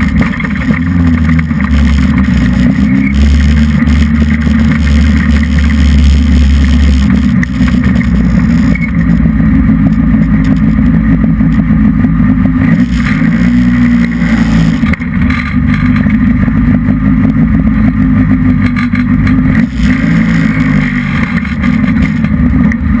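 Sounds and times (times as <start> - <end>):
race car engine running: 0.0 - 23.0.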